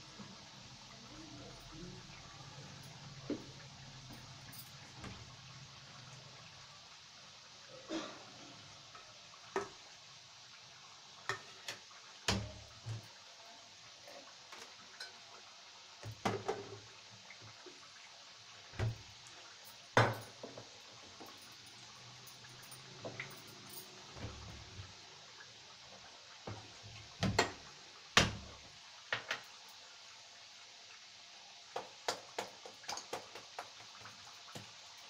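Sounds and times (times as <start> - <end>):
faint sizzle of deep-frying: 0.0 - 35.0.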